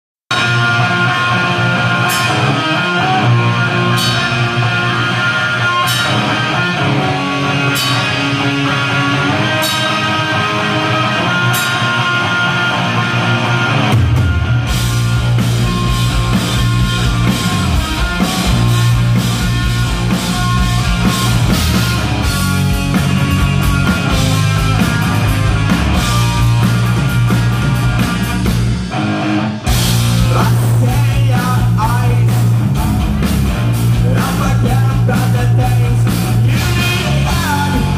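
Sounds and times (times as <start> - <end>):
bass guitar: 0.3 - 37.9
electric guitars: 0.3 - 37.9
heavy drums: 0.3 - 37.9.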